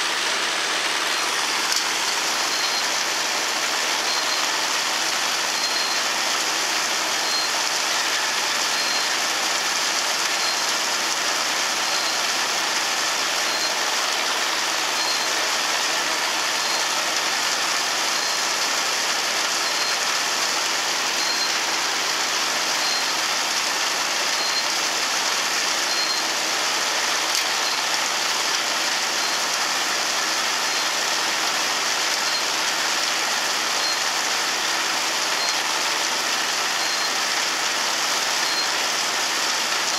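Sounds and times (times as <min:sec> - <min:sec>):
forage blower rushing: 0:00.0 - 0:39.9.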